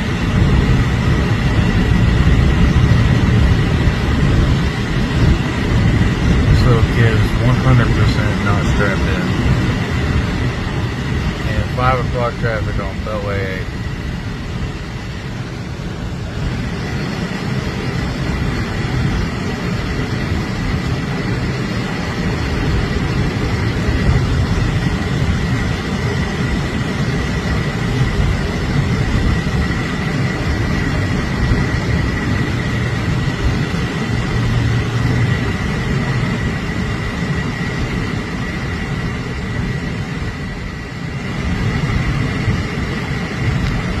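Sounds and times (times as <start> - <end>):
car tyres and engine rumble: 0.0 - 44.0
faint high whine: 0.0 - 44.0.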